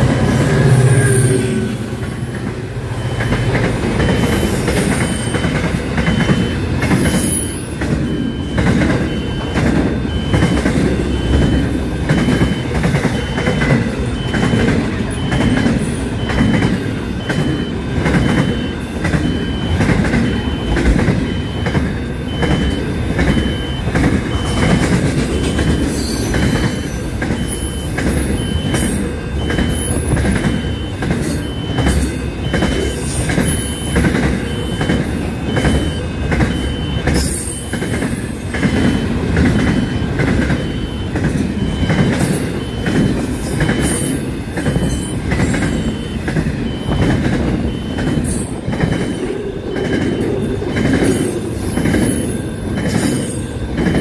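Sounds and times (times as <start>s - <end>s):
freight train rumbling: 0.0s - 54.0s
repeating electronic beep: 0.1s - 54.0s.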